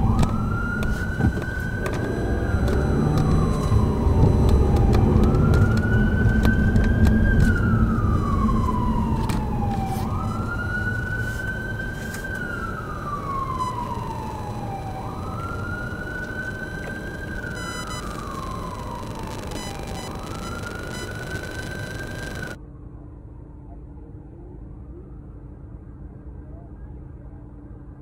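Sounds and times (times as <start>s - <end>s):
city traffic rumble: 0.0s - 22.6s
emergency siren wailing: 0.0s - 22.6s.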